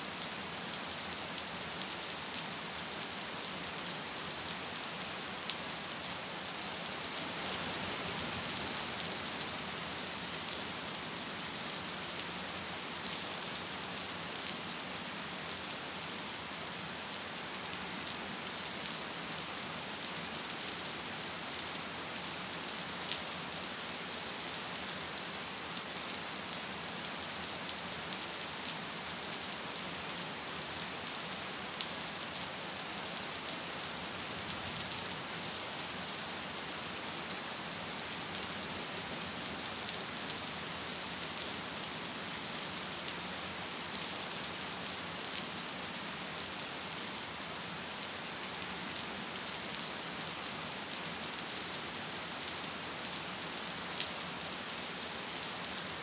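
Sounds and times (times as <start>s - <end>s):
gentle rain hiss: 0.0s - 56.0s.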